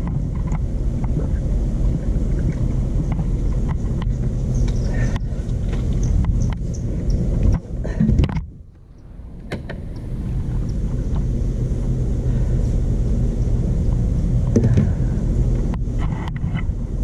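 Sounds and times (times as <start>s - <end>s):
stump grinder engine rumbling: 0.0s - 17.0s.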